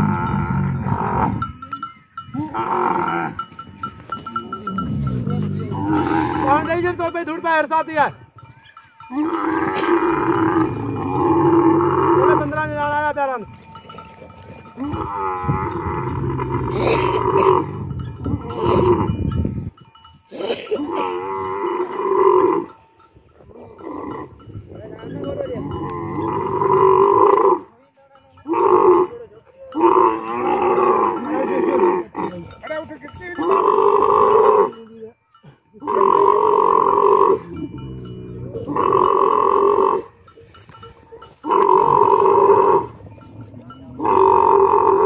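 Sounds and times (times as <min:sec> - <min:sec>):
camel calling: 0:00.0 - 0:19.4, 0:20.3 - 0:22.8, 0:23.4 - 0:27.8, 0:28.4 - 0:32.6, 0:33.4 - 0:34.8, 0:35.8 - 0:45.0.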